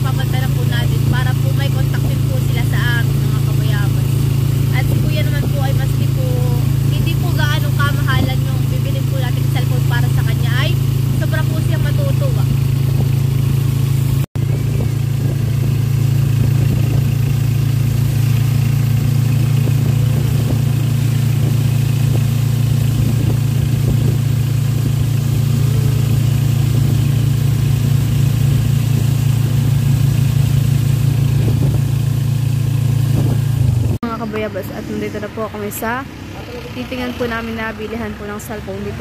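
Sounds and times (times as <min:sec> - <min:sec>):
motorcycle engine drone: 0:00.0 - 0:39.0.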